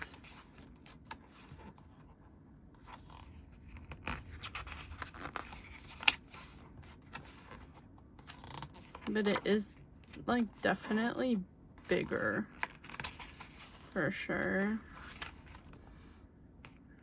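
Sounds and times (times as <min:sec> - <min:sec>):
paper pages rustling: 0:00.0 - 0:02.2, 0:02.8 - 0:11.2, 0:12.0 - 0:15.9.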